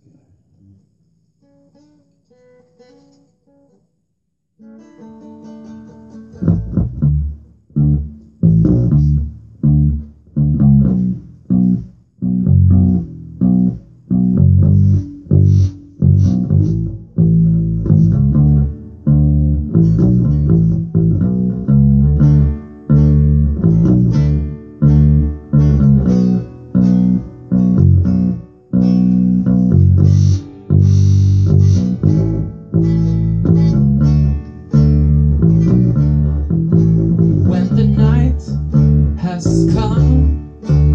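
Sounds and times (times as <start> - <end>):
guitar playing: 1.4 - 4.0, 4.6 - 40.9
electric bass guitar: 4.8 - 40.9.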